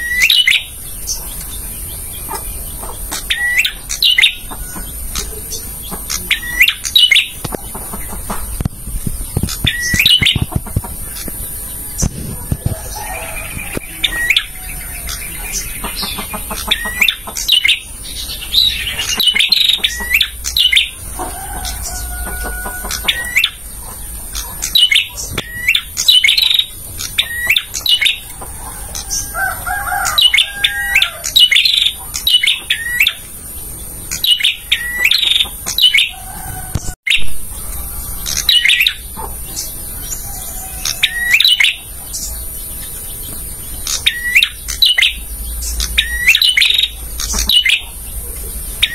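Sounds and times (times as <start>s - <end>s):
lower warbled bird calls: 0.0s - 36.2s, 36.8s - 48.9s
bird chirping: 0.0s - 48.9s.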